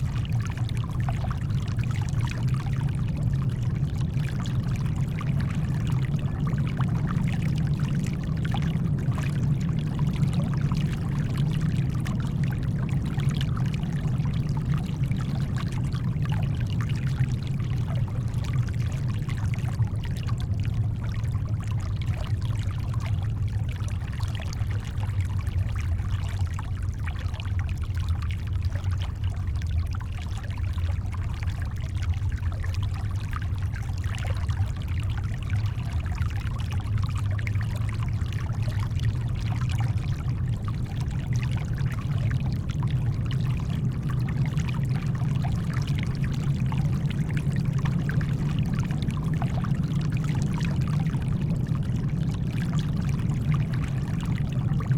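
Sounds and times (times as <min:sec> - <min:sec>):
deep rumble of brown noise: 0:00.0 - 0:54.9
water trickling and splashing: 0:00.0 - 0:54.9.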